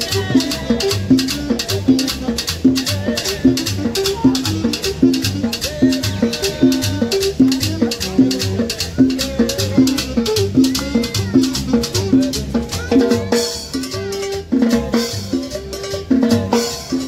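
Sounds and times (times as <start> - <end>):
bass line: 0.0 - 17.0
drums: 0.0 - 17.0
hand percussion rattling: 0.0 - 17.0.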